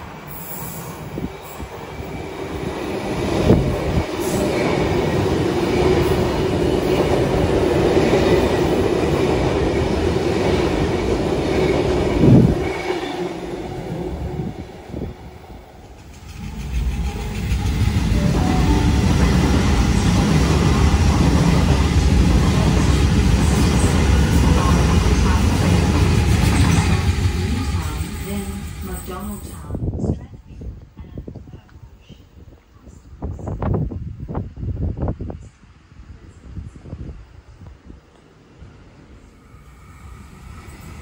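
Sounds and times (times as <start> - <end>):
electric train rumbling past: 0.0 - 30.2, 33.0 - 41.0
train deep low rumble: 0.9 - 41.0.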